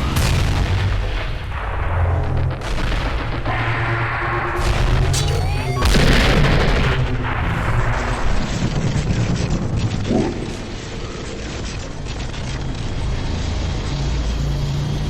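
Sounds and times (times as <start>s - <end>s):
deep rumbling with crackle: 0.0s - 5.2s, 5.8s - 14.6s.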